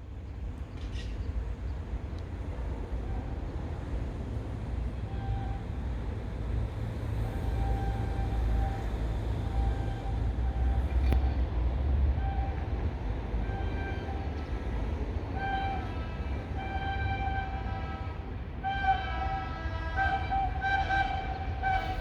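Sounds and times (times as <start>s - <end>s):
train low rumble: 0.0s - 22.0s
faint train horn blasts: 2.6s - 22.0s.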